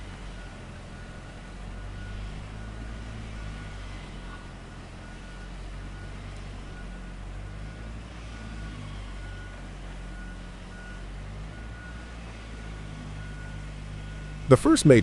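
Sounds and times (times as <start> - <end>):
diesel engine hum: 0.0 - 15.0.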